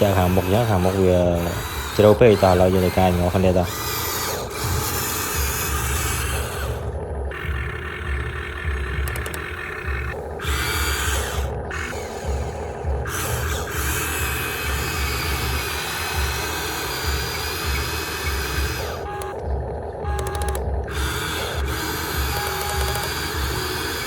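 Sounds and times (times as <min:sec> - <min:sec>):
electric motor whine: 0:00.0 - 0:24.0
low throb: 0:00.0 - 0:24.0
short steady tones: 0:00.0 - 0:24.0.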